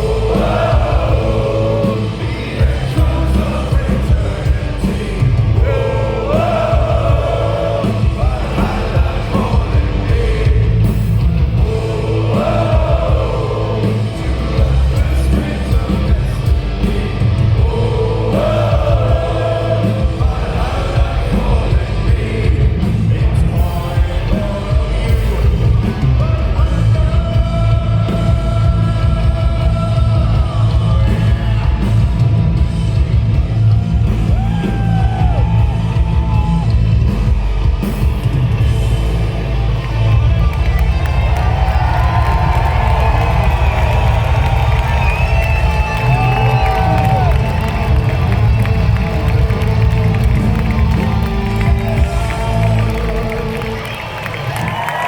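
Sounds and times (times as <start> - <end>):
heavy drums: 0.0 - 55.0
live rock band playing: 0.0 - 55.0.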